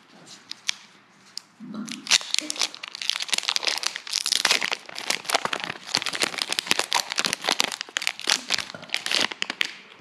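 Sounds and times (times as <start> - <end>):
foil wrapper crinkling and tearing: 1.9 - 9.9.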